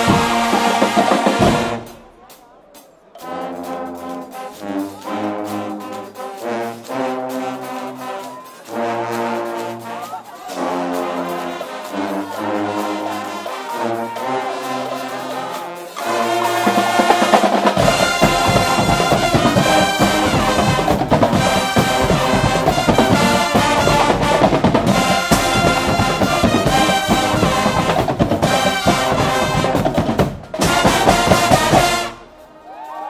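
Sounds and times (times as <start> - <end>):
heavy drumming: 0.0 - 2.4, 3.2 - 32.6
brass band playing carnival music: 0.0 - 33.0.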